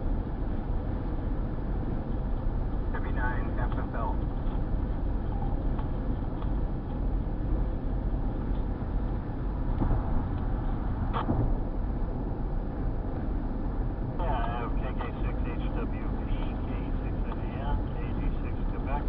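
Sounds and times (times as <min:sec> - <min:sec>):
car cabin road and engine noise: 0:00.0 - 0:19.0.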